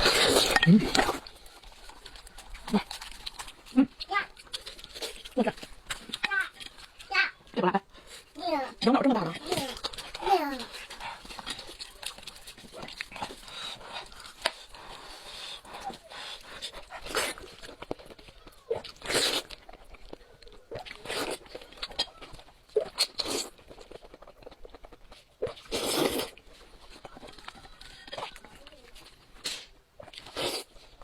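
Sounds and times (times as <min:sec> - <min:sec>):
quiet chewing: 0:00.0 - 0:31.0.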